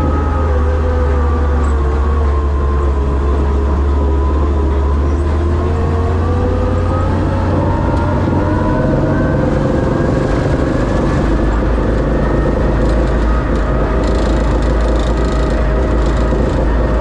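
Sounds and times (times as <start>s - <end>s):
truck engine low rumble: 0.0s - 17.0s.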